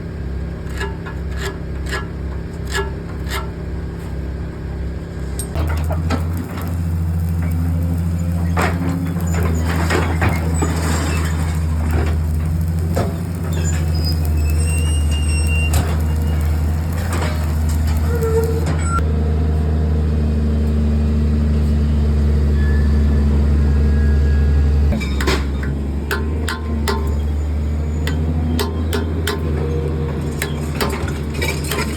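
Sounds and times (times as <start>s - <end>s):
engine humming steadily: 0.0s - 31.9s.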